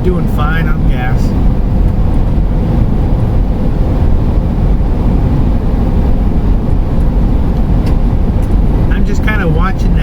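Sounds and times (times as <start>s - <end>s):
road and engine noise in van cab: 0.0s - 10.0s.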